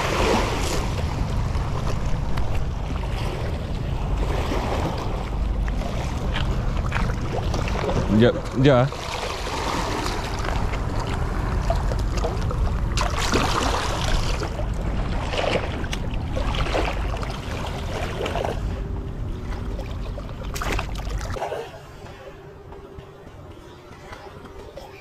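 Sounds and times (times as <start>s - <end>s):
seawater sloshing and splashing: 0.0s - 22.4s.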